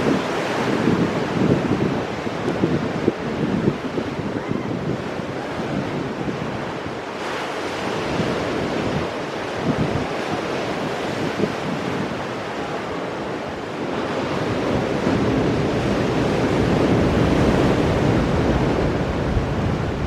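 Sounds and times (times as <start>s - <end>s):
ocean waves crashing on rocks: 0.0s - 20.0s
wind rumbling on microphone: 0.0s - 20.0s.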